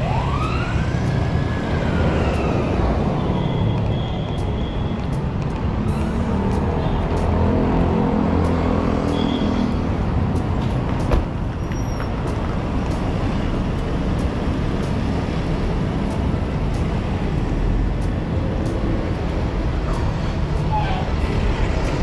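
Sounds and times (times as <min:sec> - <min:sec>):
street traffic noise: 0:00.0 - 0:22.0.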